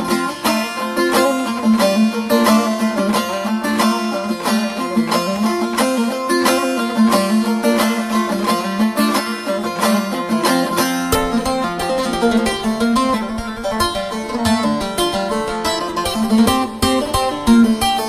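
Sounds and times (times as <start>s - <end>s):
plucked string instrument music: 0.0s - 18.0s.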